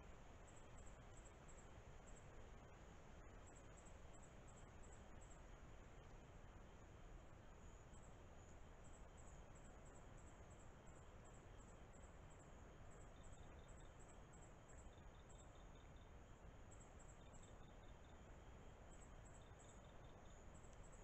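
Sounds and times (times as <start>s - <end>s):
crickets chirping: 0.0s - 21.0s
steady low hiss: 0.0s - 21.0s.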